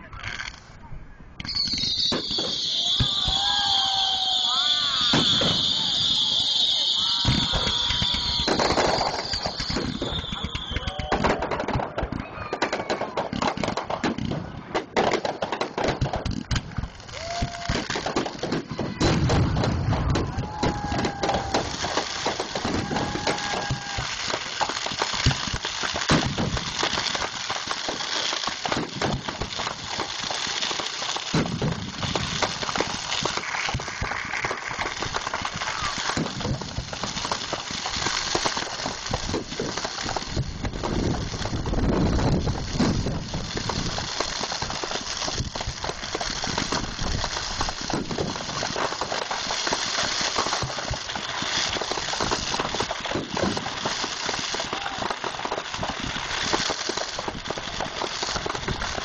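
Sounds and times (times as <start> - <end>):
fireworks bursting and crackling: 0.0 - 0.8, 1.4 - 59.0.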